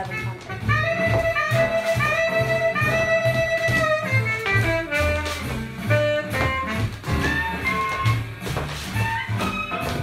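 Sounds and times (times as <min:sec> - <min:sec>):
swing jazz music: 0:00.0 - 0:10.0.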